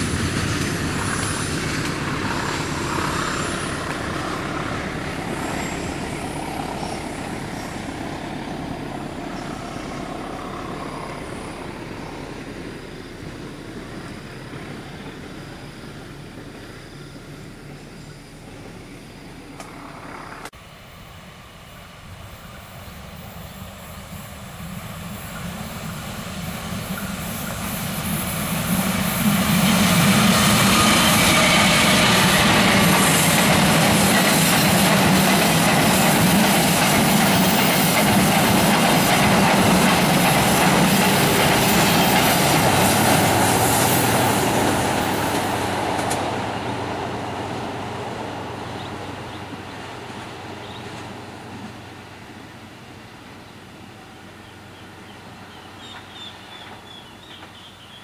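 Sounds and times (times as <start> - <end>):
train wheels clattering on track: 0.0 - 17.4, 22.4 - 53.5, 54.1 - 58.0.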